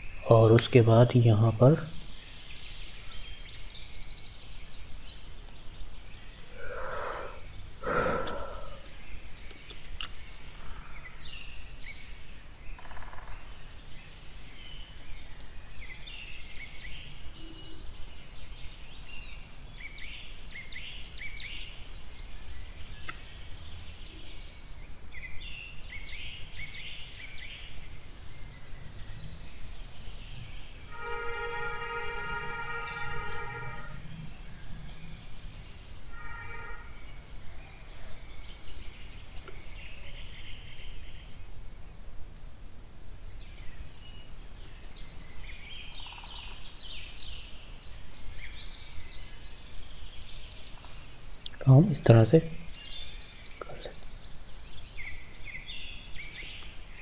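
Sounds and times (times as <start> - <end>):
faint bird chirps: 0.0 - 42.2, 43.0 - 57.0.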